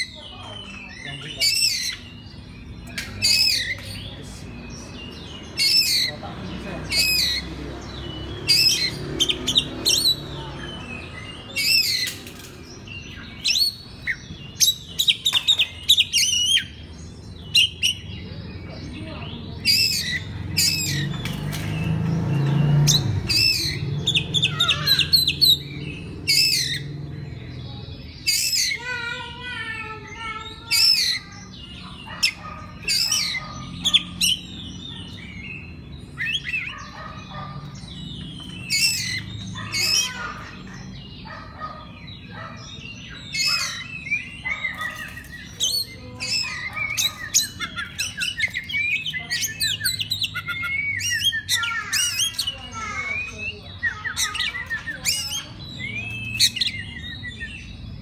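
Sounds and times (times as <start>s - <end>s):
songbird chirping and warbling: 0.0s - 58.0s.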